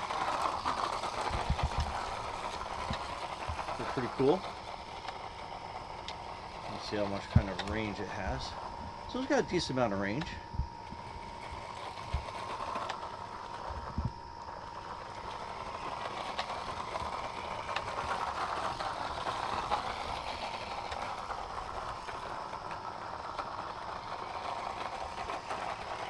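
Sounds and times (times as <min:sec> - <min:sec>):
toy truck motor whirring: 0:00.0 - 0:26.0.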